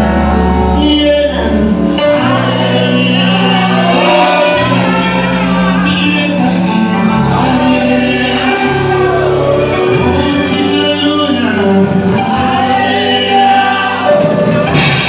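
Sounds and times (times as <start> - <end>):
choir singing gospel music: 0.0 - 15.0.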